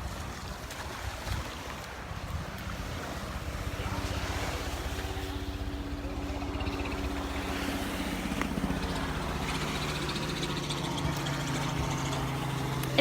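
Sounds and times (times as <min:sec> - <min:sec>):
motor engine humming: 0:00.0 - 0:13.0
surf: 0:00.0 - 0:13.0
wind: 0:00.0 - 0:13.0.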